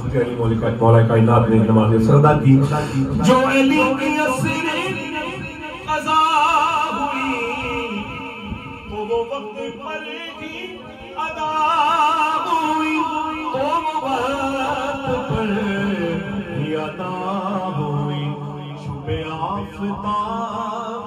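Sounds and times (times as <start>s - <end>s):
man singing devotional song: 0.0s - 21.0s.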